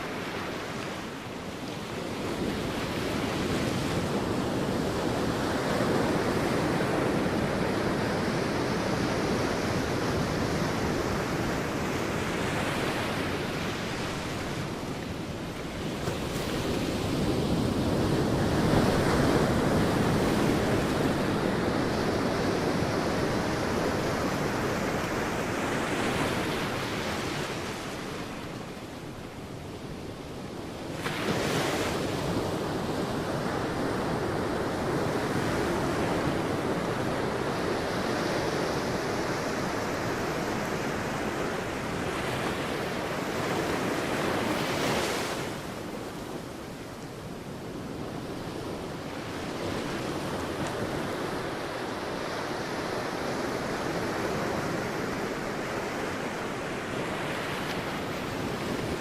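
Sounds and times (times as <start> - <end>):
sea waves breaking on a beach: 0.0 - 59.0.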